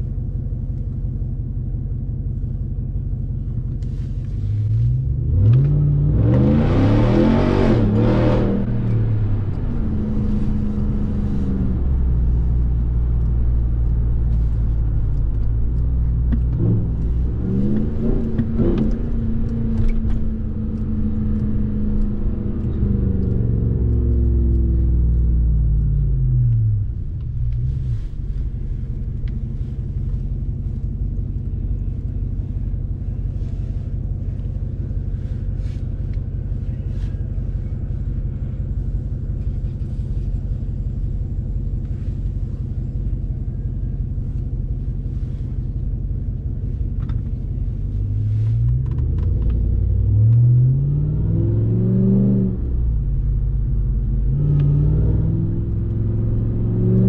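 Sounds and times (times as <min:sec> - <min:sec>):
truck engine pulling through upshifts: 0:00.0 - 0:57.0.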